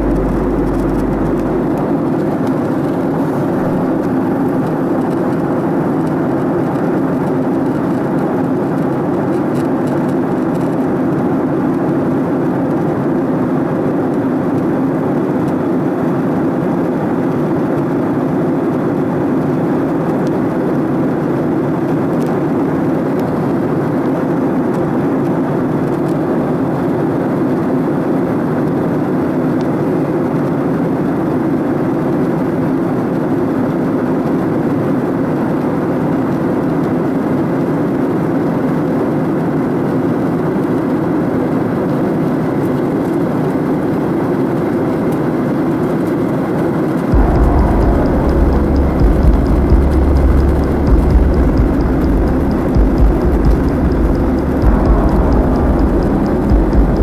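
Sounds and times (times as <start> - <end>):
jet engines roaring in cabin: 0.0 - 12.9, 23.0 - 57.0.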